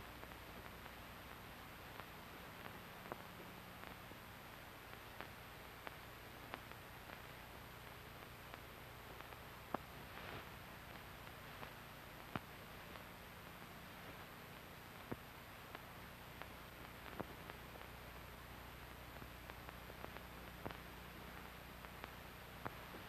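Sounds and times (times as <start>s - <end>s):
recording hiss and hum: 0.0s - 23.0s.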